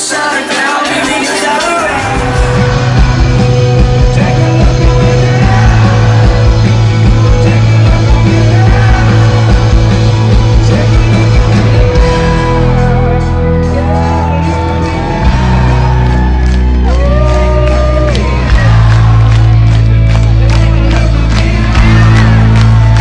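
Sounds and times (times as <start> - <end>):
drums: 0.0 - 23.0
person singing: 0.0 - 23.0
electric guitars: 0.7 - 23.0
bass: 1.3 - 23.0.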